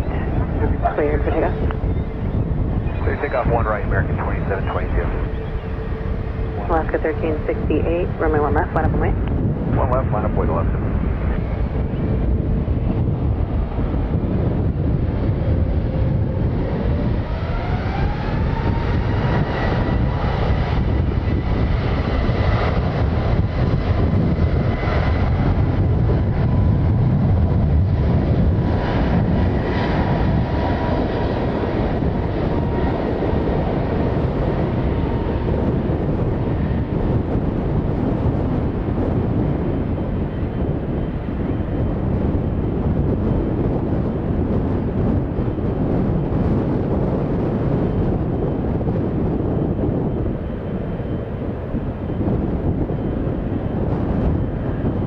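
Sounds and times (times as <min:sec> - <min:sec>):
jet engine low rumble: 0:00.0 - 0:55.0
jet engines whining: 0:00.0 - 0:55.0.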